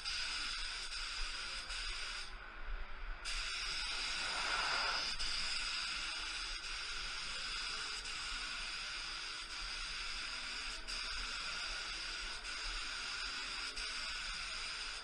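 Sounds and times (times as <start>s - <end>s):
paint spray gun hissing: 0.0s - 2.4s, 3.2s - 15.0s.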